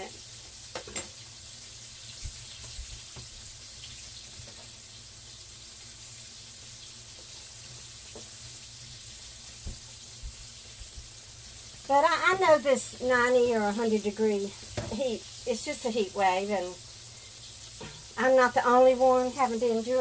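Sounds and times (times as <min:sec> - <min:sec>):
chicken sizzling in a skillet: 0:00.0 - 0:20.0.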